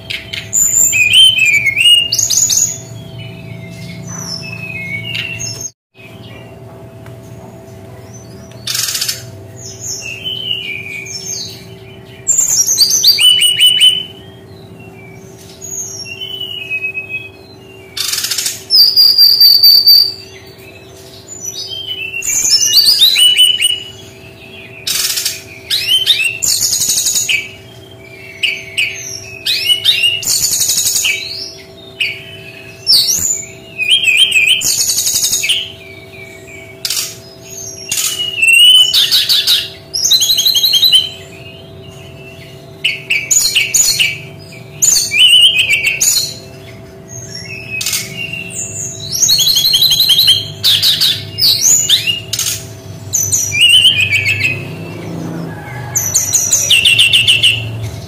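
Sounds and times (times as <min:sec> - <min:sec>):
bird singing trills and chirps: 0:00.0 - 0:58.0.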